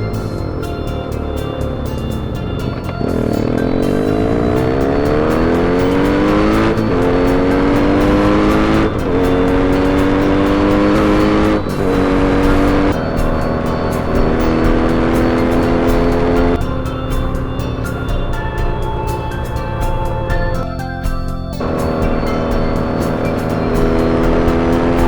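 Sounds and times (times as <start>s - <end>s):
motorcycle engine revving through gears: 0.0s - 25.0s
music: 0.0s - 25.0s.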